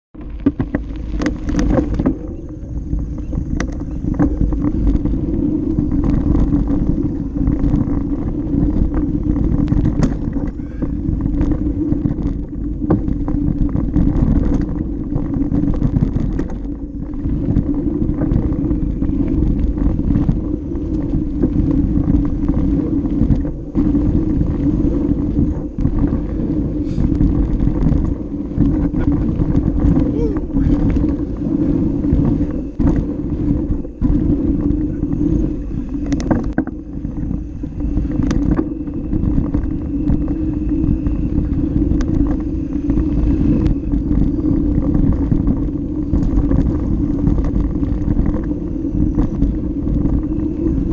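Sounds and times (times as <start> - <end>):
wind on microphone: 0.1 - 50.9
bike clicks and rattles: 0.2 - 50.9
tyre rumble on dirt: 0.2 - 50.9.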